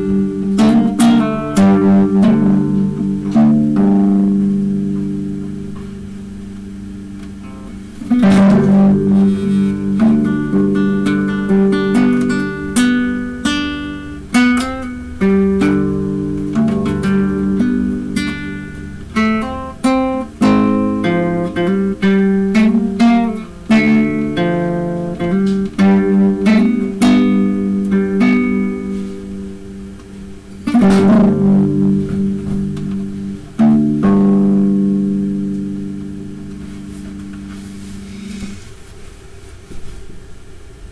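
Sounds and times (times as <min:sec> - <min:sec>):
acoustic guitar: 0:00.0 - 0:40.1.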